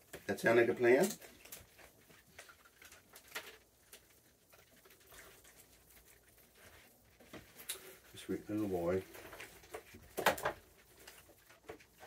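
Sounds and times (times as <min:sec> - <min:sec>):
faint clicks and taps: 0:00.0 - 0:12.0.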